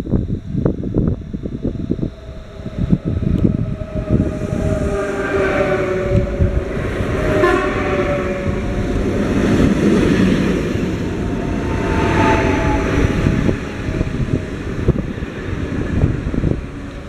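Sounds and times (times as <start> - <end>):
faint motor whine: 0.0 - 17.0
train wheels rumbling on rail: 0.0 - 17.0.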